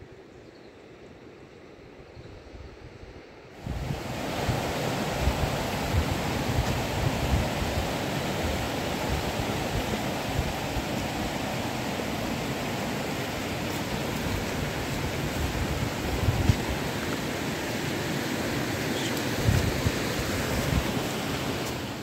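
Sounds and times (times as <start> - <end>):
rushing outdoor noise: 0.0 - 22.0
wind buffeting microphone: 2.1 - 12.6, 13.3 - 18.2, 19.0 - 21.6.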